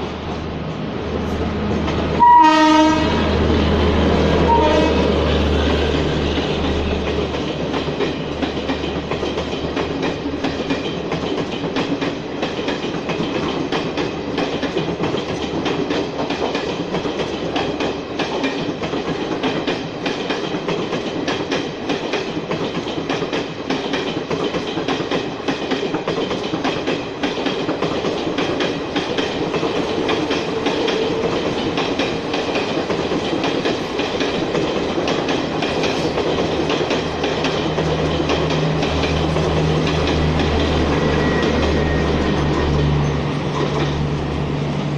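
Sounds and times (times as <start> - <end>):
train wheels clattering over rail joints: 1.4 - 44.1.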